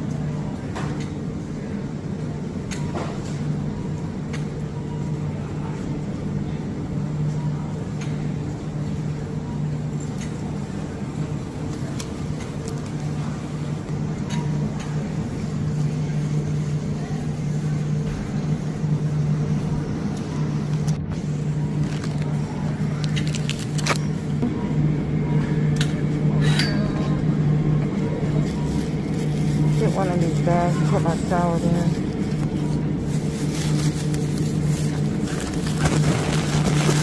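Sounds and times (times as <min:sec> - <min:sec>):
refrigerator hum: 0:00.0 - 0:37.0.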